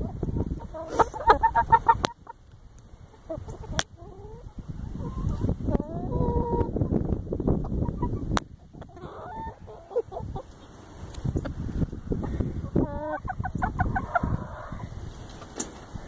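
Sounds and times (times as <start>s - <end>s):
hens clucking: 0.0s - 15.9s.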